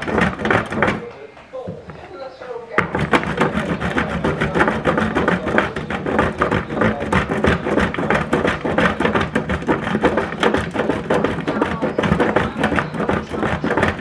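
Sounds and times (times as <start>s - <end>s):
cheese rasping on a grater: 0.0s - 1.1s, 2.8s - 14.0s.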